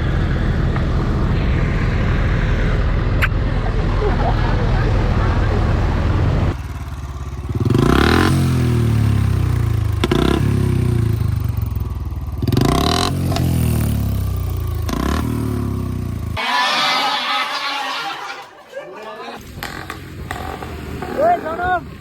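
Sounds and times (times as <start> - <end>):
motorcycle engine revving: 0.0 - 17.2, 19.4 - 22.0.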